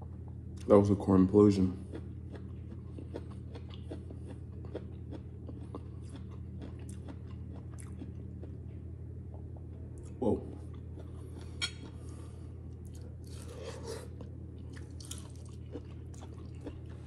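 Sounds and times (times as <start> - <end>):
steady low hum: 0.0 - 17.0
person chewing soup: 1.8 - 17.0.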